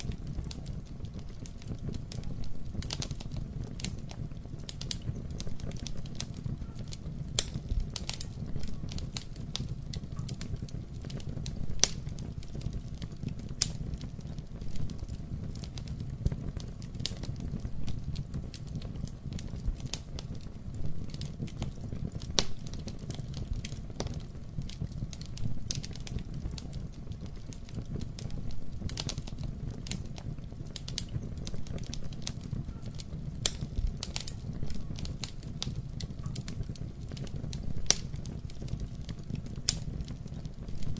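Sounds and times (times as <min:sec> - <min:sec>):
burning wood crackling and popping: 0:00.0 - 0:40.9
low rumble of flame: 0:00.0 - 0:40.9.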